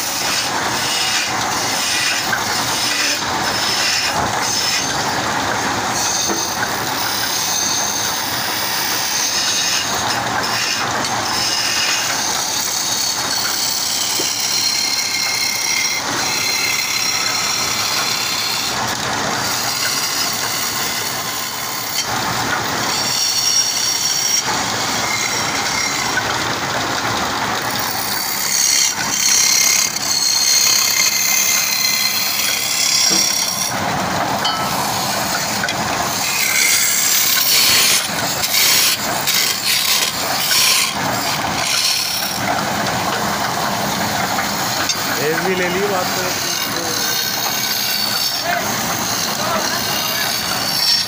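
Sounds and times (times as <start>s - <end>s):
woodworking machine cutting wood: 0.0s - 51.0s.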